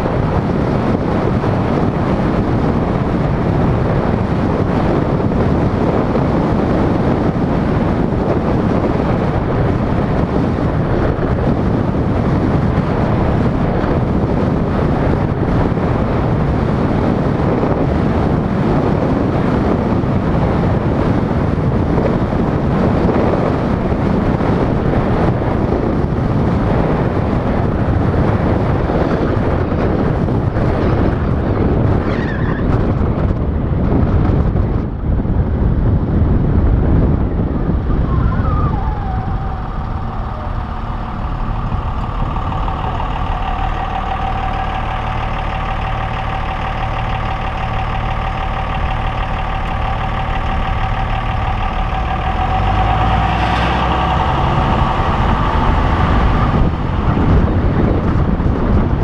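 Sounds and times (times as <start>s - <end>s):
road and tyre noise: 0.0s - 59.0s
wind on microphone: 0.0s - 59.0s.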